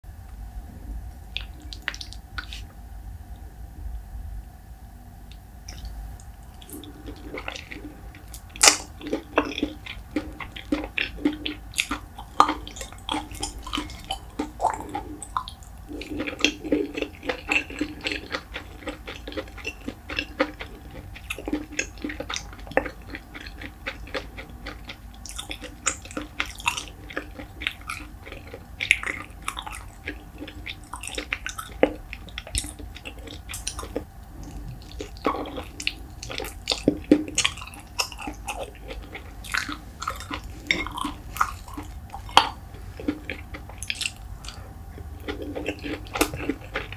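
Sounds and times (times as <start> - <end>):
wet chewing mouth clicks: 1.3 - 2.7, 5.7 - 46.9.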